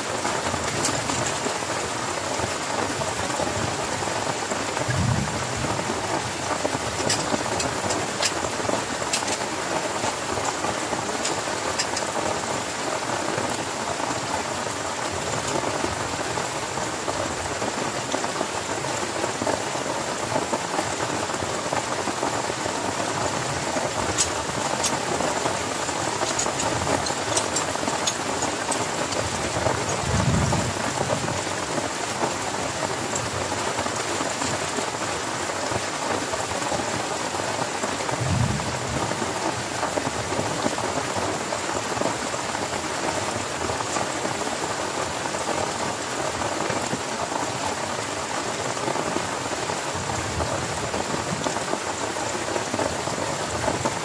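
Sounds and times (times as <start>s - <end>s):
heavy rain on a tent: 0.0s - 54.0s.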